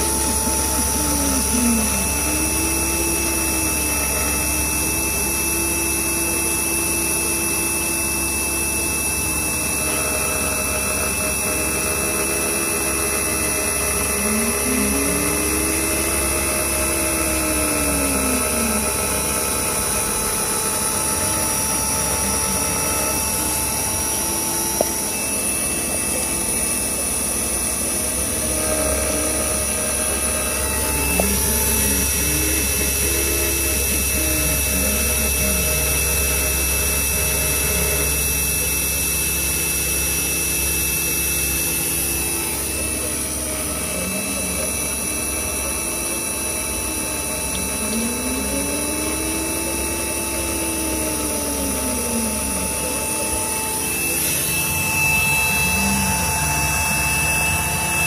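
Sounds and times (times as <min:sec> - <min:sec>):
spindle whine: 0:00.0 - 0:58.0.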